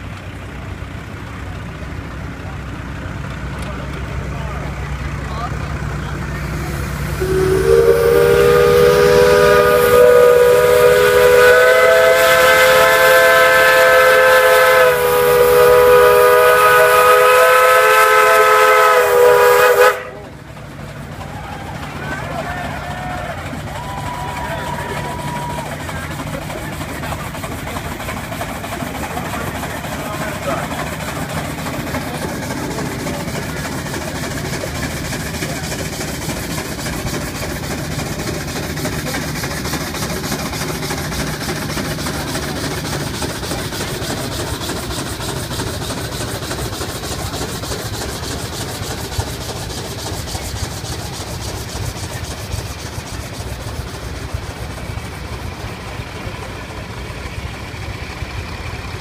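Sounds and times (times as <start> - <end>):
heavy machinery engines running: 0.0 - 59.0.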